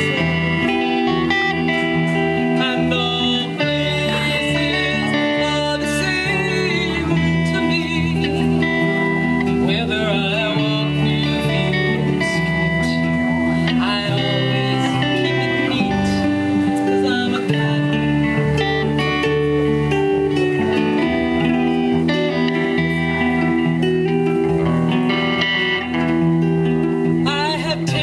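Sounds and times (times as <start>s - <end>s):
lead guitar with bent notes: 0.0s - 28.0s
live band playing: 0.0s - 28.0s.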